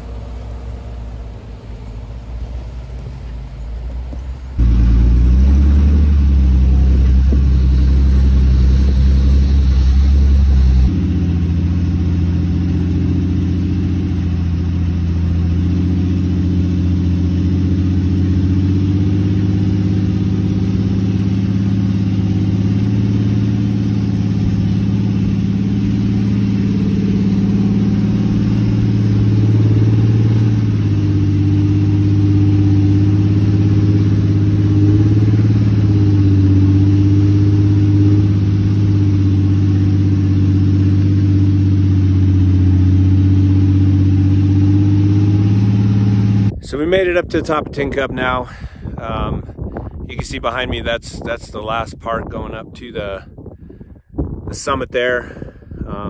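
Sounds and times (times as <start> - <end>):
engine drone from inside vehicle: 0.0 - 46.8
off-road vehicle engine crawling: 0.0 - 53.3, 54.5 - 56.0.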